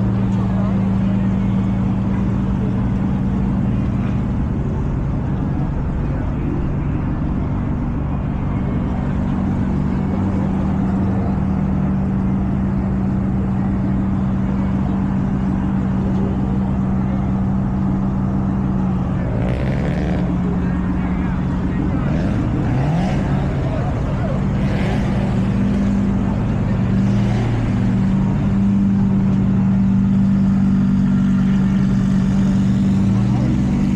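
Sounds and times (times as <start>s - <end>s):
car engine and exhaust droning: 0.0s - 33.9s.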